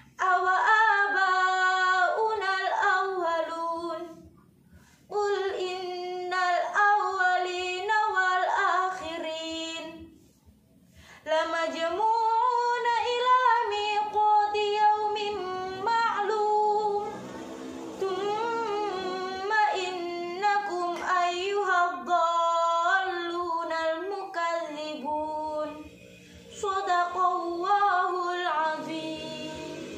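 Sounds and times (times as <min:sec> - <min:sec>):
woman chanting unaccompanied: 0:00.0 - 0:04.3, 0:05.1 - 0:10.1, 0:11.2 - 0:25.9, 0:26.5 - 0:29.9.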